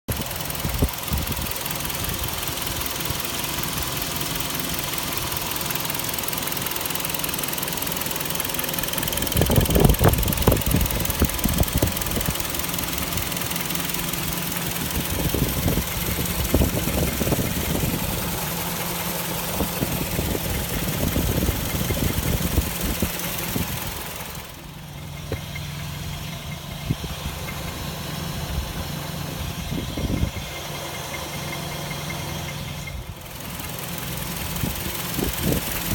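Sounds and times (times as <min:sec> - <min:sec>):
car engine idling: 0:00.1 - 0:35.9
engine knocking clatter: 0:00.1 - 0:35.9.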